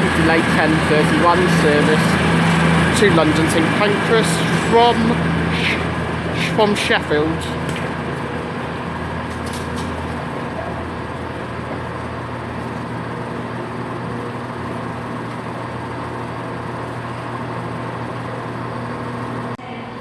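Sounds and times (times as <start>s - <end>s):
train diesel engines humming: 0.0s - 20.0s.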